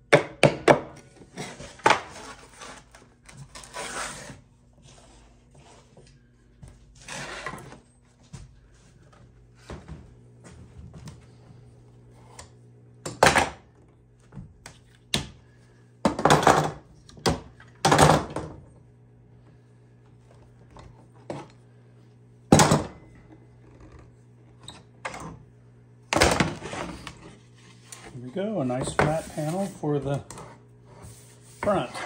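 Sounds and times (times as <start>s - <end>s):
steady low hum: 0.8s - 32.0s.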